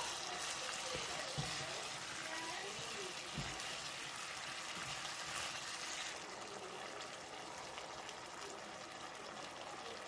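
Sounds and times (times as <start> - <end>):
sauce sizzling and bubbling in pan: 0.0 - 10.0.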